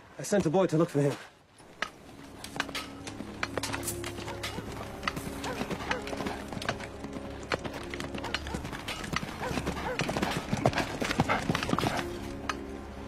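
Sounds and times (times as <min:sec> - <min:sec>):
horse hooves on dirt: 0:00.3 - 0:13.0.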